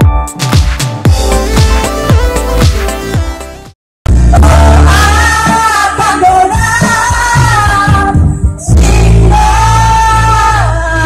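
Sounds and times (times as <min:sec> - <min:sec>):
band with heavy bass: 0:00.0 - 0:11.0.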